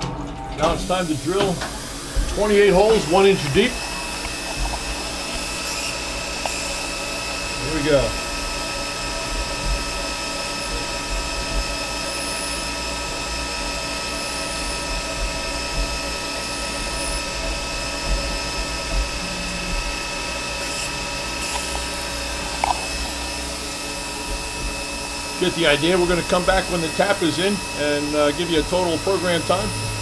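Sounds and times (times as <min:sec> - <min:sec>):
milling machine spindle whine: 0:00.0 - 0:30.0
low running rumble: 0:00.8 - 0:12.1, 0:14.7 - 0:30.0.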